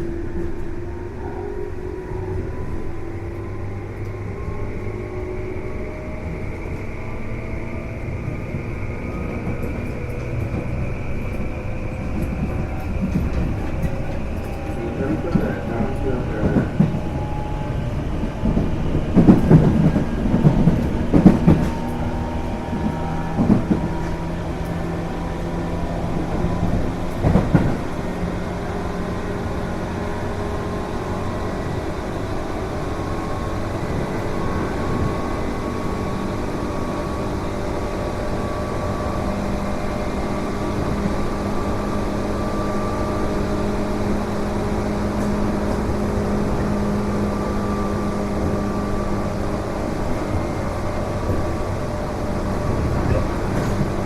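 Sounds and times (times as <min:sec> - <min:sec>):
electric train running noise: 0:00.0 - 0:54.0.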